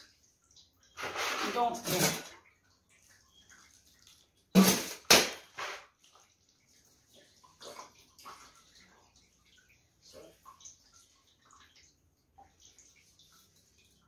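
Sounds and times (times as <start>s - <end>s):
water splashing: 0.0s - 14.0s
water trickling: 0.0s - 14.0s.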